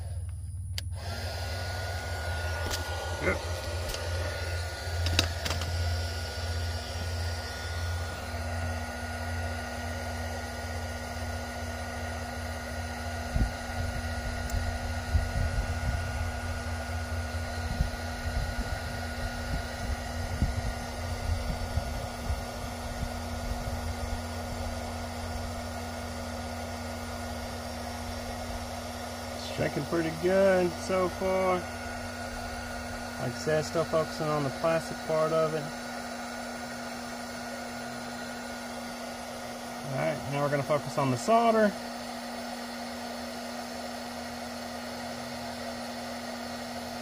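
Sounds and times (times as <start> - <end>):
heat gun fan whir: 0.0 - 47.0.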